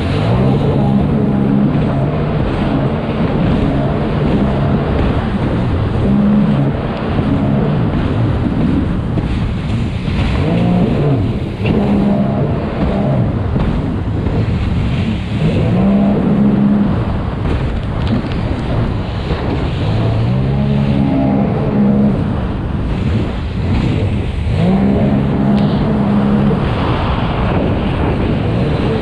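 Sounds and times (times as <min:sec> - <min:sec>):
personal watercraft engines racing: 0:00.0 - 0:29.0
water noise: 0:00.0 - 0:29.0
wind: 0:00.0 - 0:29.0.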